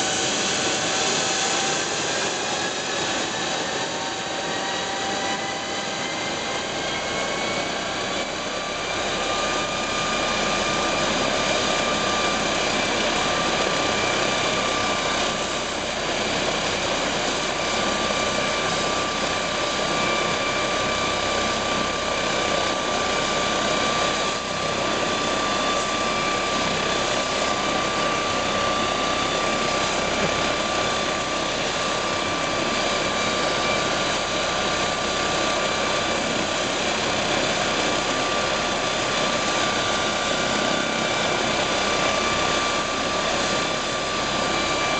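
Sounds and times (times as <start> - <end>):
helicopter engine whine: 0.0 - 44.9.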